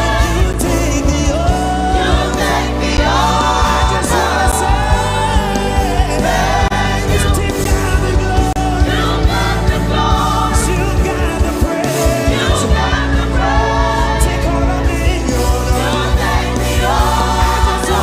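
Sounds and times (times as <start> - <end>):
band playing with drum beat: 0.0 - 18.0
choir singing gospel: 0.0 - 18.0.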